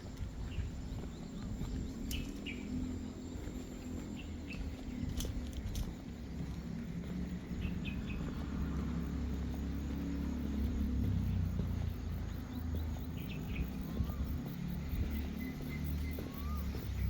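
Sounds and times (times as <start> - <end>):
bird chirps: 0.0 - 17.0
steady low rumble: 0.0 - 17.0.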